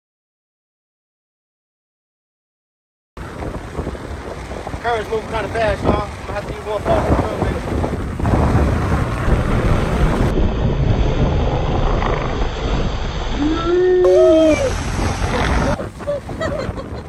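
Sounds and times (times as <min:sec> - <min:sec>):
waves crashing on rocks: 0:03.2 - 0:17.0
wind on microphone: 0:03.2 - 0:17.0.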